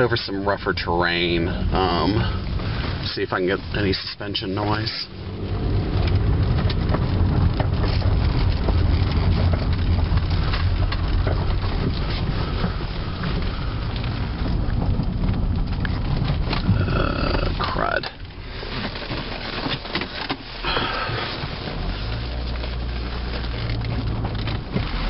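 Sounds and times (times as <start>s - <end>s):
stones crackling and popping: 0.0s - 25.0s
tyres rumbling over stony ground: 0.0s - 25.0s.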